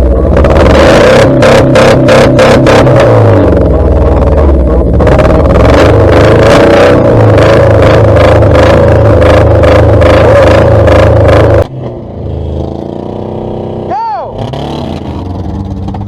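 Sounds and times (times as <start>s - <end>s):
racing car engines at full throttle: 0.0s - 16.0s.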